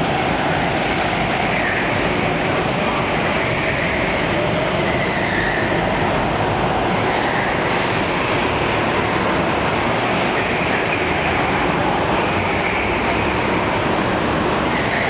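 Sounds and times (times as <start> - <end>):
go-kart engines droning: 0.0 - 15.0.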